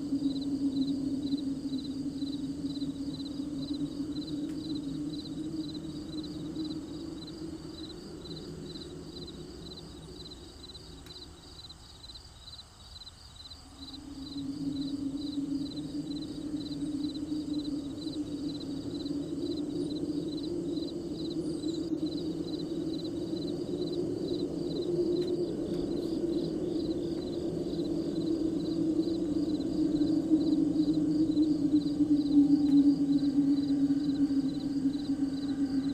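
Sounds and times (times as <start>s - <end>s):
low drone: 0.0s - 12.1s, 13.6s - 35.9s
crickets chirping: 0.0s - 35.9s.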